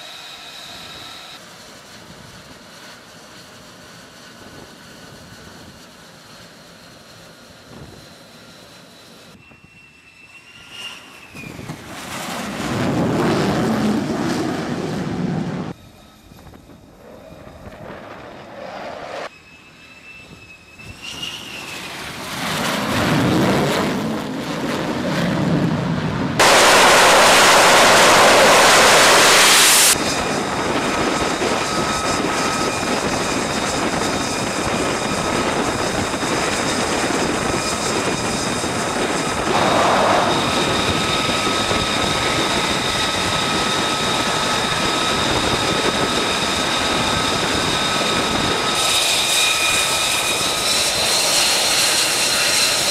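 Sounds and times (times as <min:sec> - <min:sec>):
jet engine running with turbine whine: 0:00.0 - 0:52.9
fighter jets flying over: 0:09.0 - 0:52.9.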